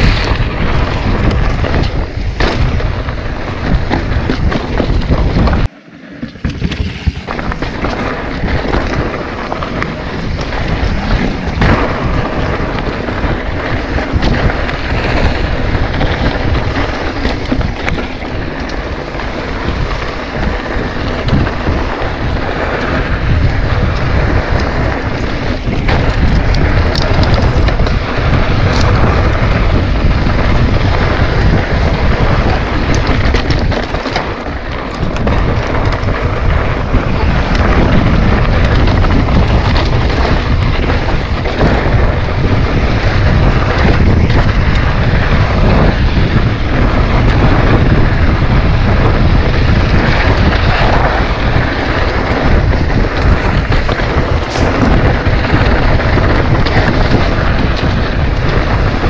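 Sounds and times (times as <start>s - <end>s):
bike rattling: 0.0s - 59.0s
tyres rolling over dirt: 0.0s - 59.0s
wind buffeting microphone: 0.0s - 59.0s.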